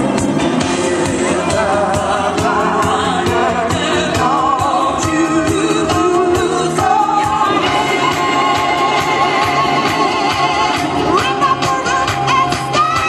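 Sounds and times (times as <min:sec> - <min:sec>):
pop song with singing: 0:00.0 - 0:13.0.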